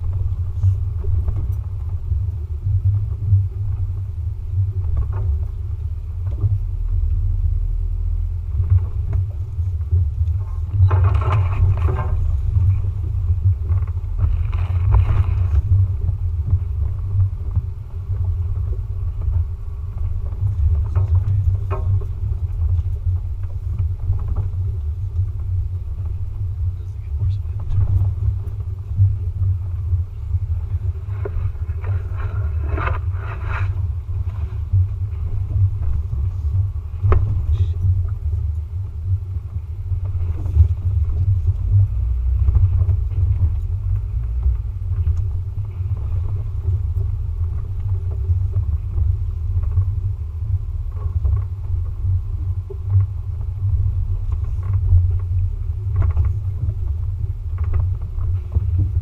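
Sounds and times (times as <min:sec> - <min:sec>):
knocks and rattles over bumps: 0:00.0 - 0:59.0
off-road vehicle engine rumble: 0:00.0 - 0:59.0.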